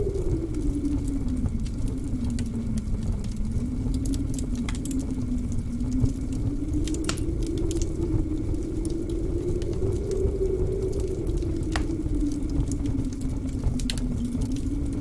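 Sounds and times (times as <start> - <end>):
wind howling: 0.0 - 15.0
wood fire crackling and popping: 0.0 - 15.0.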